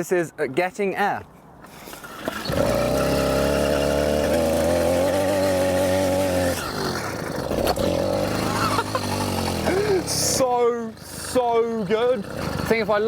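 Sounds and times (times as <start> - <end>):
two-stroke engine revving: 2.0 - 13.0.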